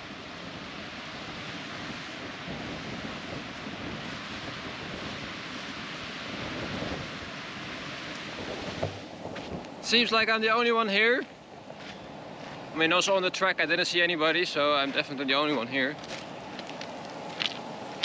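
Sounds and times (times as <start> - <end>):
ocean surf breaking on a beach: 0.0 - 18.0.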